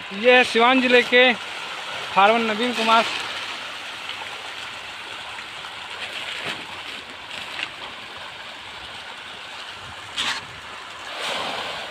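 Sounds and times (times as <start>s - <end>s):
fish churning and splashing: 0.0s - 11.9s.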